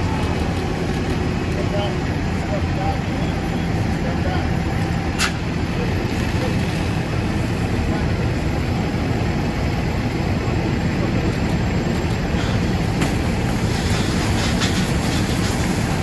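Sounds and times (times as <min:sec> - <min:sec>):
fire engine pump running: 0:00.0 - 0:16.0
fire hose stream rushing: 0:00.0 - 0:16.0.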